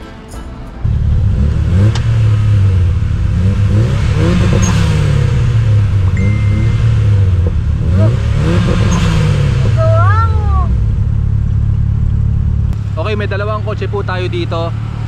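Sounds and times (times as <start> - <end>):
car engine accelerating: 0.8 - 15.0.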